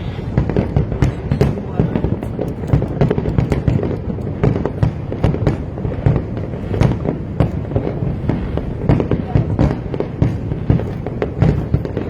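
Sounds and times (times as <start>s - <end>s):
fireworks bangs and cracks: 0.0s - 12.0s
low rumble of bursts: 0.0s - 12.0s.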